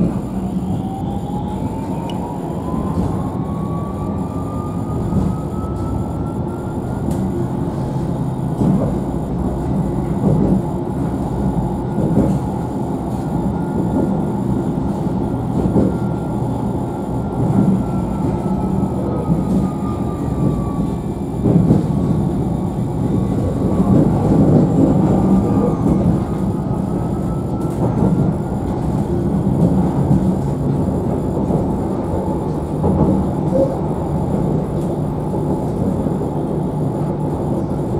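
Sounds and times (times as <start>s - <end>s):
tram wheels rumbling on rails: 0.0s - 37.9s.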